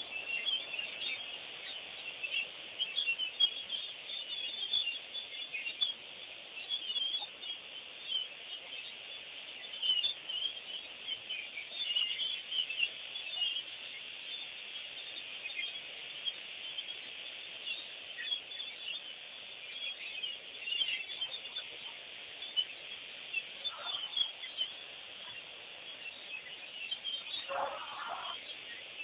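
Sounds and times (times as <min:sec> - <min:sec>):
birds chirping in chorus: 0:00.0 - 0:29.0
low bird calls: 0:00.0 - 0:29.0.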